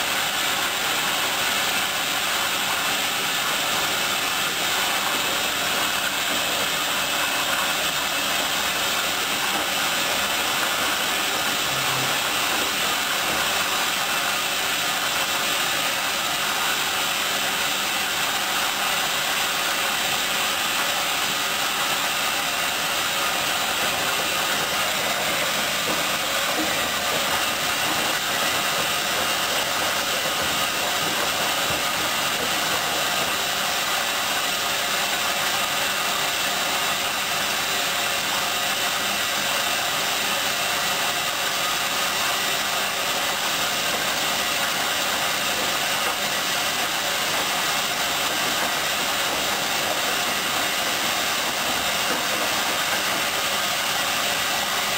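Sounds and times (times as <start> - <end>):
washing machine running: 0.0 - 54.9.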